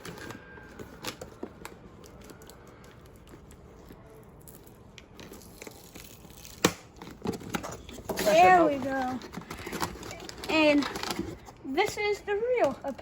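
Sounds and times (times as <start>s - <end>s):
packaging crinkling: 0.0s - 11.6s.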